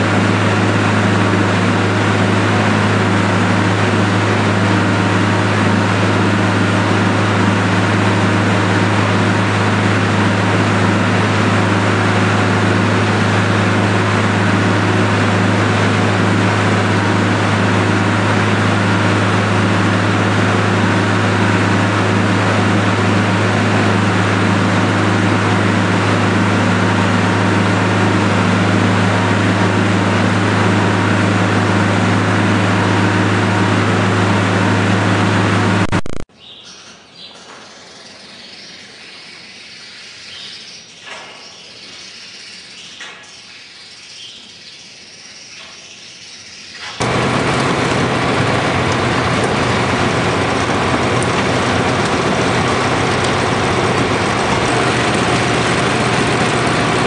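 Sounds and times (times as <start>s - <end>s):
feed mixer machinery humming: 0.0s - 36.0s, 46.9s - 57.0s.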